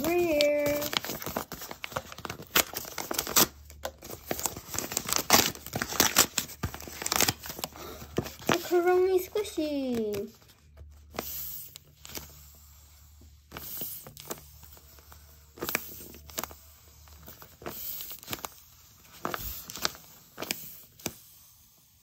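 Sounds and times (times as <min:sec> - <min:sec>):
plastic wrapper crinkling: 0:00.0 - 0:11.3, 0:13.5 - 0:21.2.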